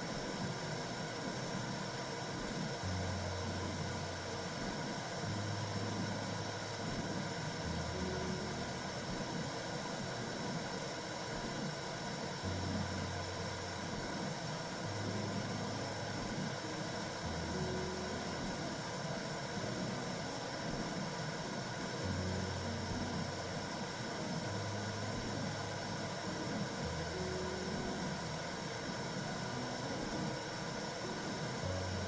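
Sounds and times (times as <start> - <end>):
womb whooshing hiss: 0.0 - 31.8.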